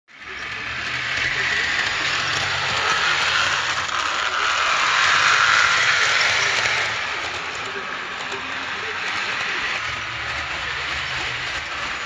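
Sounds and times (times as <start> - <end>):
model train running on track: 0.1 - 12.0.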